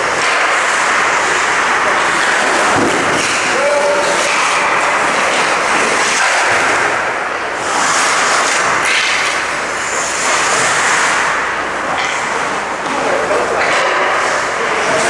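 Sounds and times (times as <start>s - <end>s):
skate blades scraping ice: 0.0s - 15.0s.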